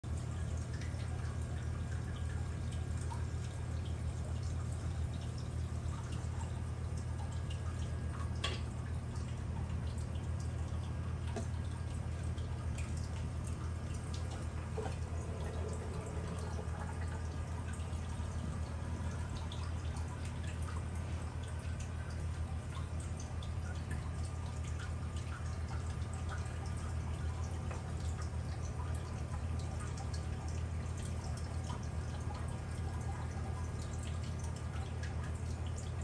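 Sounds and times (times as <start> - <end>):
aquarium pump hum: 0.0 - 36.0
water drips: 0.1 - 36.0
water trickling: 0.1 - 36.0.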